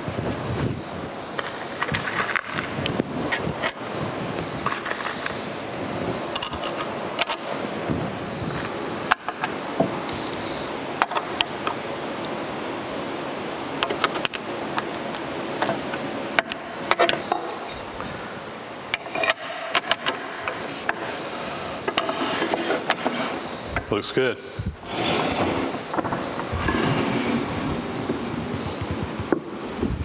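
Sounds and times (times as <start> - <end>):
steady background noise: 0.0 - 30.0.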